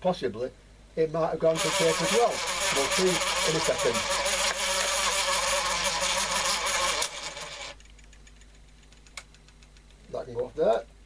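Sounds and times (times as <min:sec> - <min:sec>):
tape recorder crackly noise: 0:01.0 - 0:11.0.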